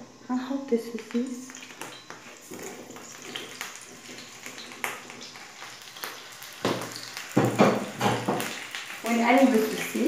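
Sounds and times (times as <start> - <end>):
sausage sizzling in a frying pan: 0.1 - 10.0.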